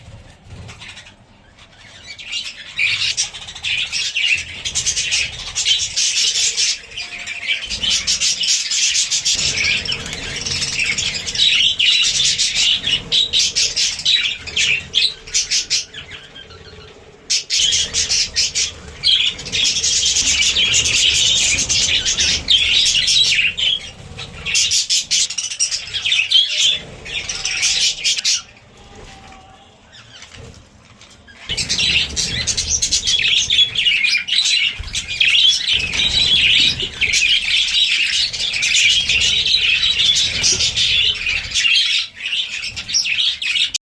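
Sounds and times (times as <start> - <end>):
budgerigars chattering and chirping: 0.5 - 28.6, 31.5 - 43.8.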